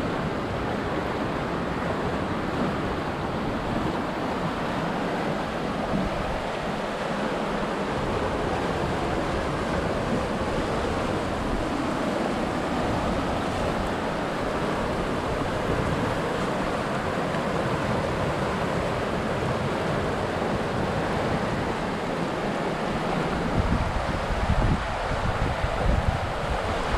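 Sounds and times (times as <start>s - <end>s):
river rushing over rocks: 0.0s - 26.9s.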